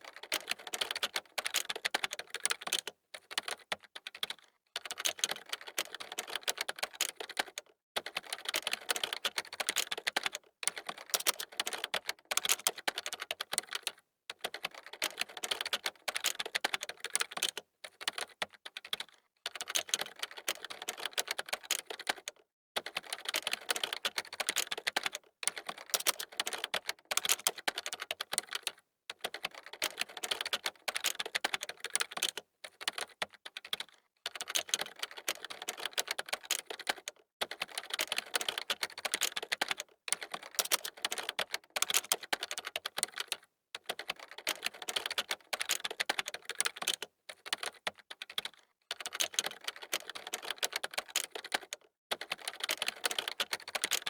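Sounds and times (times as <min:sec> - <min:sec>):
fast typing on a keyboard: 0:00.0 - 0:54.0.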